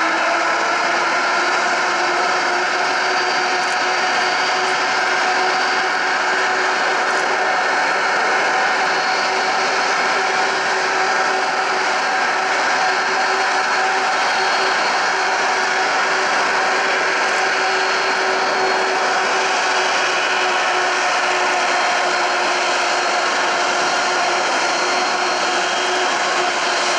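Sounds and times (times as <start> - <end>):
jet engines whining at low power: 0.0 - 26.9.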